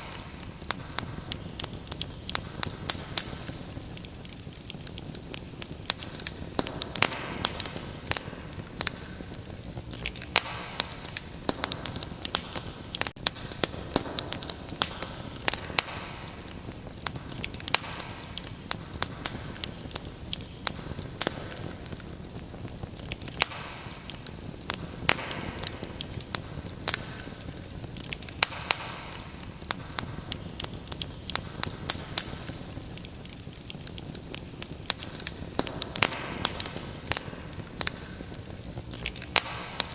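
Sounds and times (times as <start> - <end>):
fire crackling and popping: 0.0 - 39.9
hiss of flame: 0.0 - 39.9.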